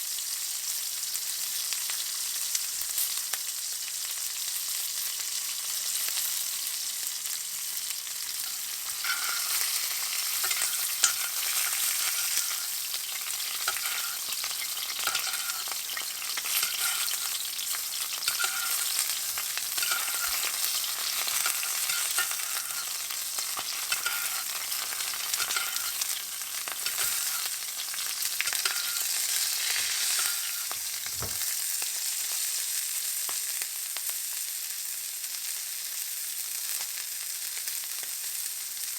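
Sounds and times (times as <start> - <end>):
steak sizzling in a pan: 0.0 - 38.9.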